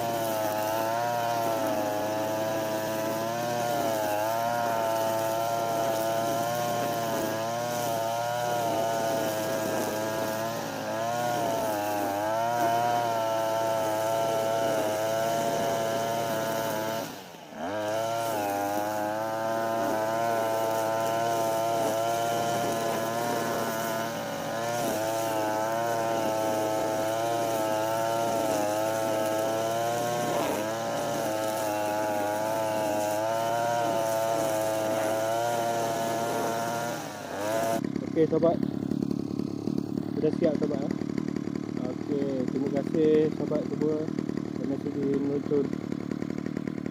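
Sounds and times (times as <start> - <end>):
brush cutter running: 0.0 - 46.9.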